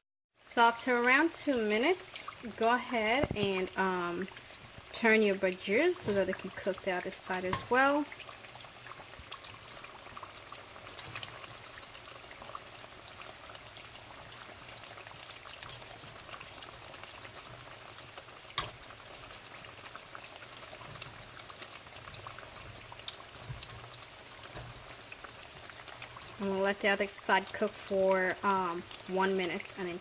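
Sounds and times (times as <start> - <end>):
deep-frying sizzle with pops: 0.4 - 30.0.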